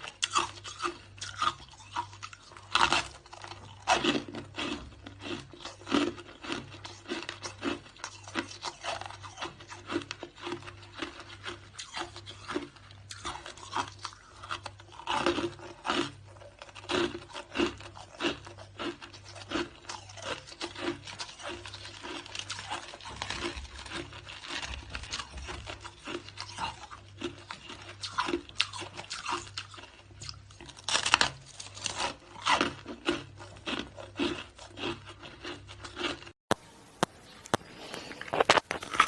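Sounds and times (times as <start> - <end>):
person chewing crunchy ice: 0.0 - 36.4, 37.4 - 39.0.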